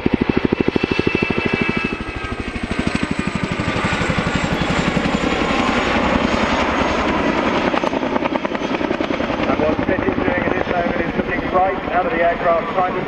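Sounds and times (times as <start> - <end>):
helicopter rotor thudding: 0.0 - 12.0.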